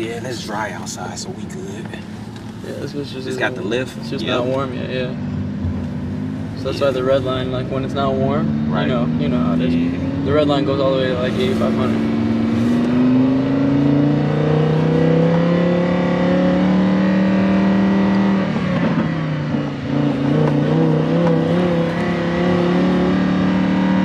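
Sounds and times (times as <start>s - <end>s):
car engine pulling: 0.0s - 24.0s.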